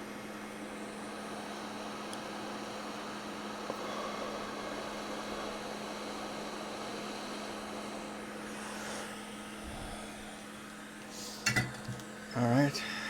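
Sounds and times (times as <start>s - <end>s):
fan humming: 0.0s - 13.0s
hot air blower hiss: 0.0s - 13.0s.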